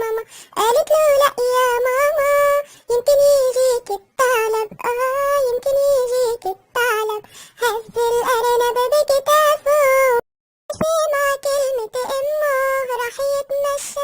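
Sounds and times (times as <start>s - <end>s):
high-pitched cartoon voice singing: 0.0s - 14.0s.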